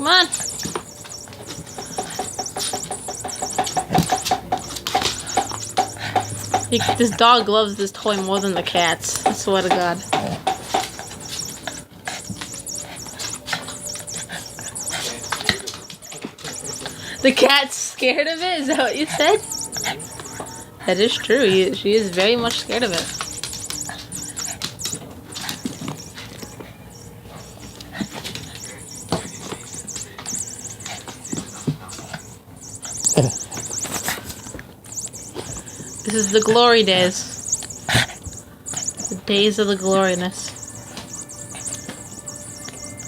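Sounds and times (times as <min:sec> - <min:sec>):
knocks and patter: 0:00.0 - 0:43.0
toy mouse squeaking: 0:00.0 - 0:43.0.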